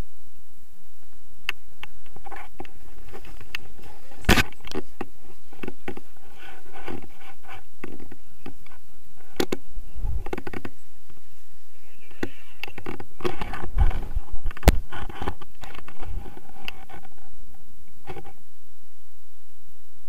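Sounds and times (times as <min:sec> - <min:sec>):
wind buffeting microphone: 0:01.6 - 0:18.2.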